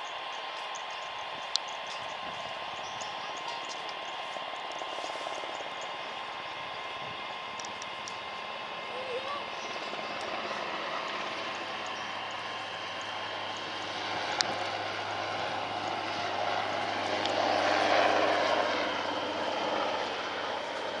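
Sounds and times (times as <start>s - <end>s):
helicopter flying past: 0.0s - 21.0s.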